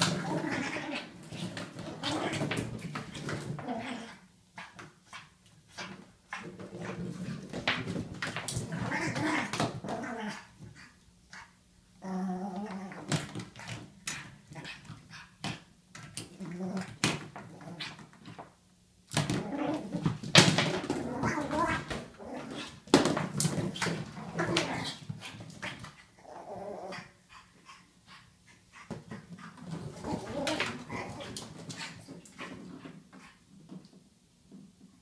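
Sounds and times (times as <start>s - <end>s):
toy and claws on hardwood floor: 4.6s - 11.6s, 12.6s - 26.6s, 27.4s - 34.8s.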